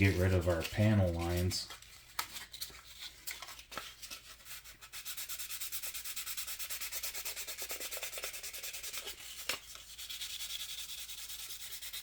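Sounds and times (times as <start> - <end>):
hand sanding plastic: 0.0 - 1.8, 4.0 - 12.0.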